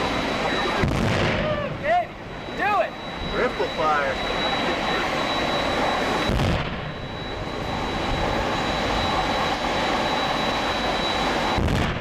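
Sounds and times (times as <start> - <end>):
thin high whine: 0.0 - 11.6.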